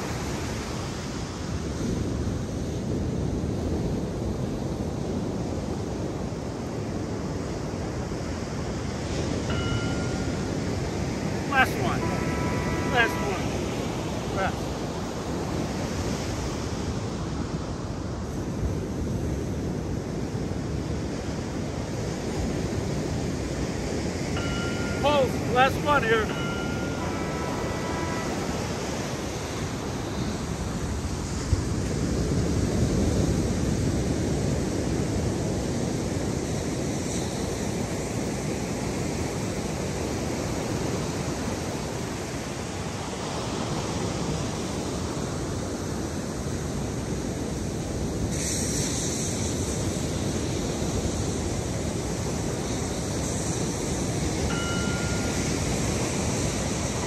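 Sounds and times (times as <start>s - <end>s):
ocean surf: 0.0s - 57.0s.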